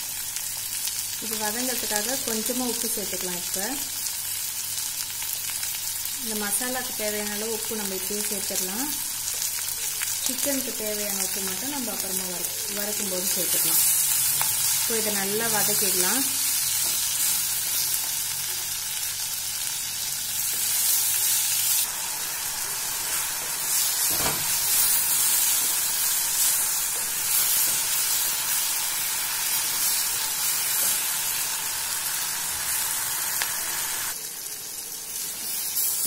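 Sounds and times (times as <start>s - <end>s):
vegetables sizzling in pot: 0.0s - 36.0s.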